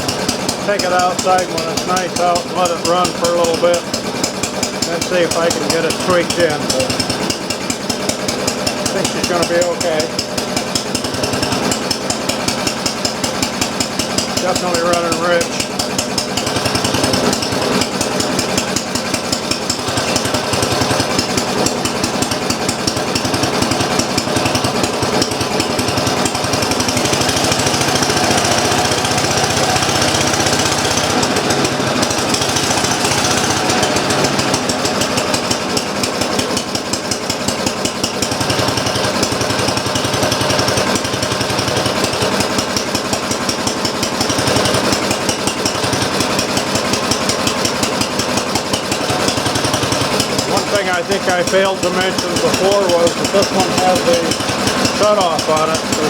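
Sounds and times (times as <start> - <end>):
single-cylinder engine running: 0.0 - 56.0.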